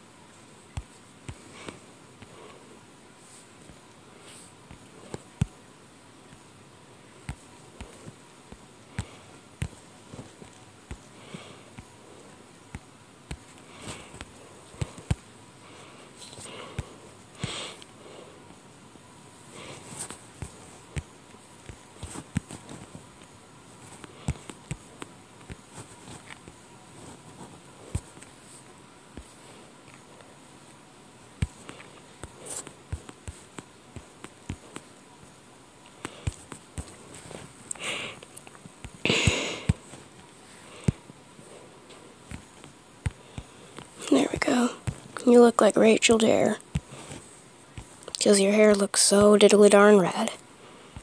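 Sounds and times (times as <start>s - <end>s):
faint steady hiss: 0.0s - 51.0s.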